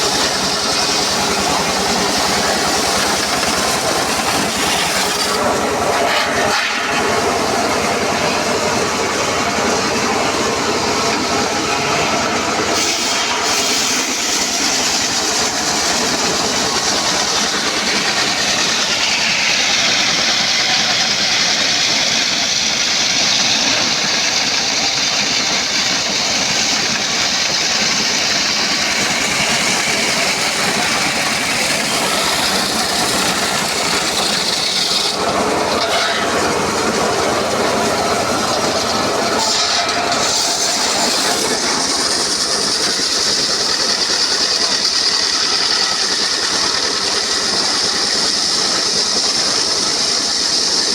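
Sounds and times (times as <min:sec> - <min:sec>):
saw blade cutting log: 0:00.0 - 0:07.7, 0:11.4 - 0:50.9.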